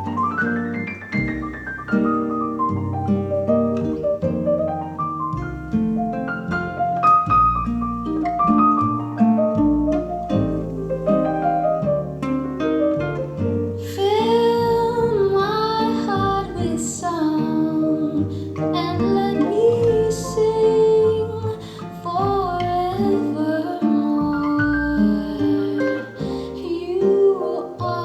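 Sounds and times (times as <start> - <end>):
plucked string notes: 0.0 - 28.0.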